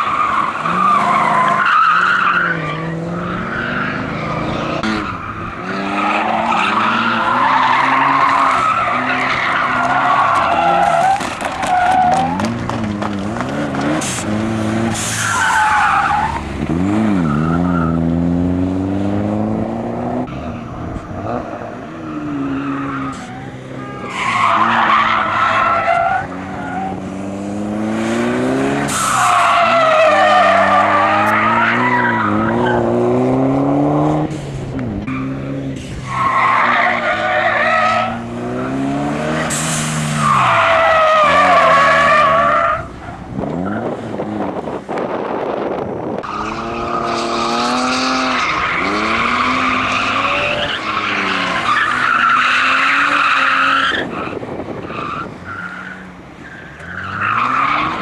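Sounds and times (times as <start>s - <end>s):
car engine revving: 0.0s - 56.2s.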